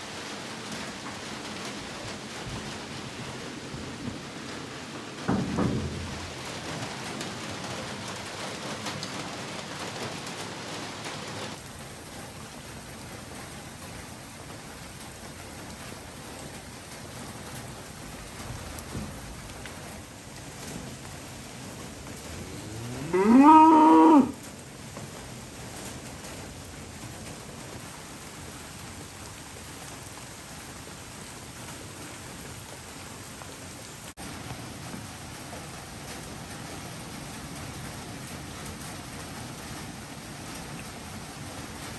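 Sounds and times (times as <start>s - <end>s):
heavy rain: 0.0s - 41.9s
raindrops ticking close by: 0.0s - 41.9s.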